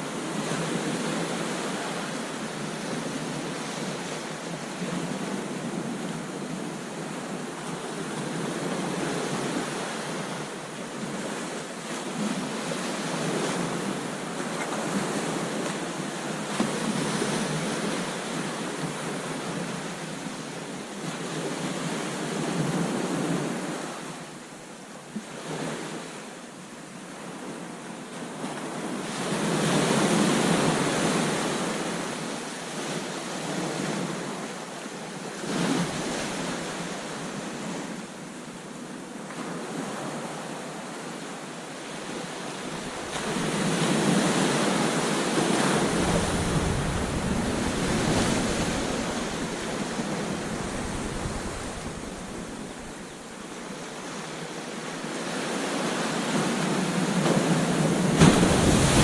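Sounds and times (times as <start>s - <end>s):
ocean surf breaking on beach: 0.0s - 24.4s, 27.3s - 59.0s.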